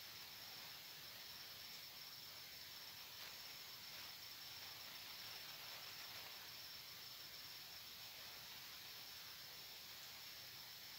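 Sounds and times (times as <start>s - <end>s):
crickets trilling: 0.0s - 10.9s
low background hiss: 0.0s - 10.9s.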